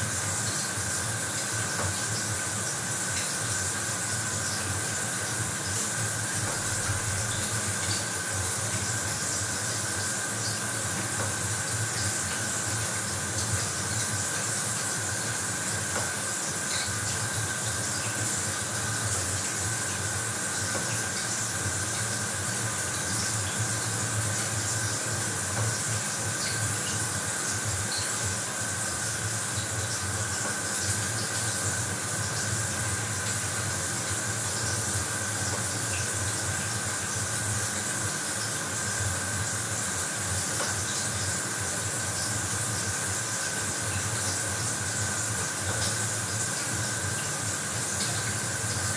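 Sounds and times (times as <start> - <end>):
shower water spraying: 0.0 - 48.9.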